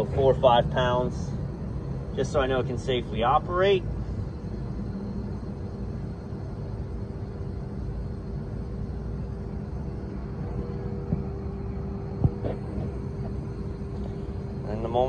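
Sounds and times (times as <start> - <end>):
low outdoor rumble: 0.0 - 15.0
machinery hum: 0.0 - 15.0.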